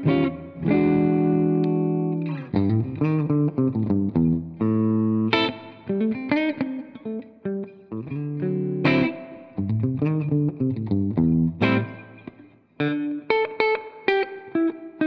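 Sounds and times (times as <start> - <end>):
electric guitar riff: 0.0 - 15.0.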